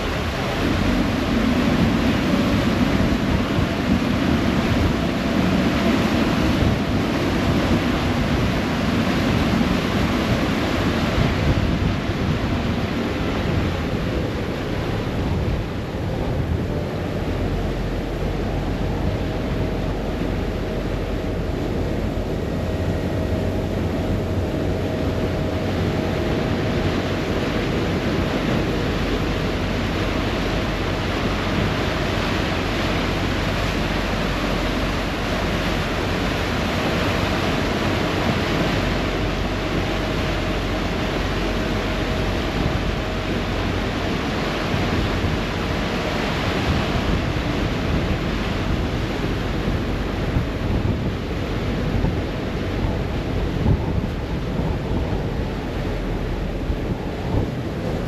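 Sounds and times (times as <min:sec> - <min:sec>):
churning wake water: 0:00.0 - 0:58.0
low engine hum: 0:00.0 - 0:58.0
wind on microphone: 0:00.0 - 0:58.0.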